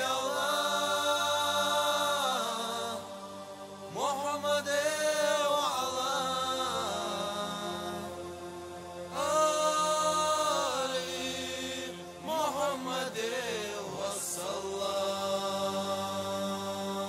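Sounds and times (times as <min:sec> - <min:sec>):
solo voice chanting: 0:00.0 - 0:08.3, 0:09.1 - 0:17.0
steady drone: 0:00.0 - 0:17.0.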